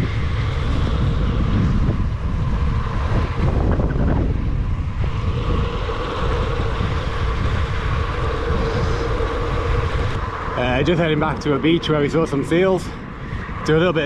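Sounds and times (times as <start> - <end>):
bike hum: 0.0 - 14.0
wind buffeting microphone: 0.0 - 14.0.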